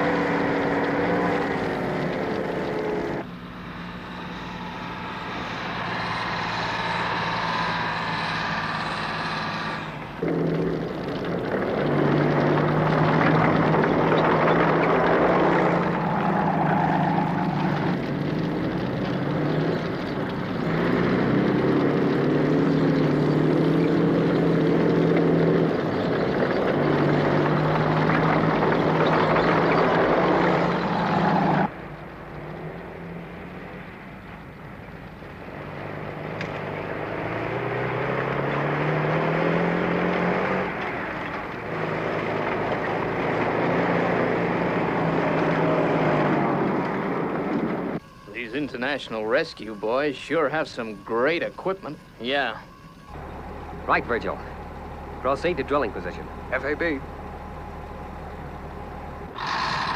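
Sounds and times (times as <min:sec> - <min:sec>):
whining engine hum: 0:00.0 - 0:59.9.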